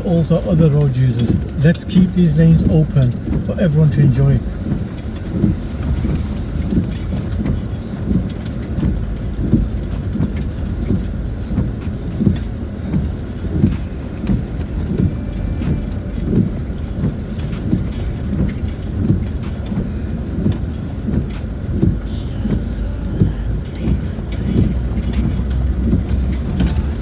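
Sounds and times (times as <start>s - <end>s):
suspension thumps and knocks: 0.0s - 27.0s
vehicle cabin rumble: 0.0s - 27.0s.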